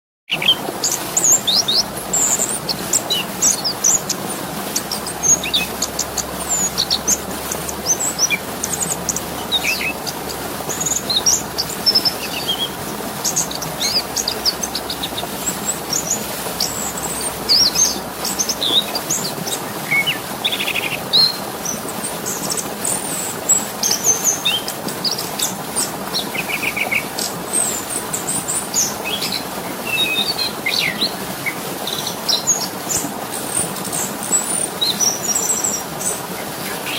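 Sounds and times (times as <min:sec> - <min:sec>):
running water rushing: 0:00.3 - 0:36.9
songbirds chirping and trilling: 0:00.3 - 0:36.9.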